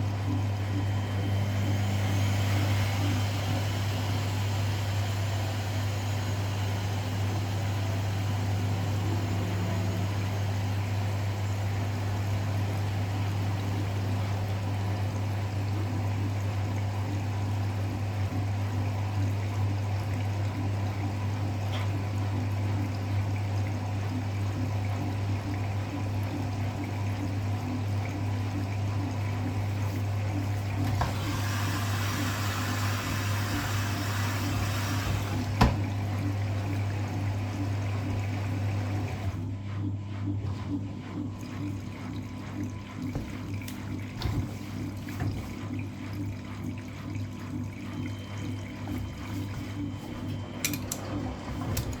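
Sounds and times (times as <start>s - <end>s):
washing machine hum: 0.0s - 52.0s
water swishing in drum: 0.0s - 52.0s.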